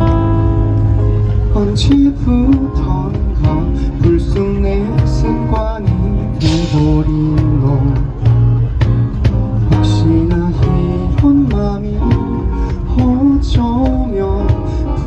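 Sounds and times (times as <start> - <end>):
bass: 0.0 - 15.0
cajon beat: 0.0 - 15.0
guitars: 0.0 - 15.0
keyboard: 0.0 - 15.0.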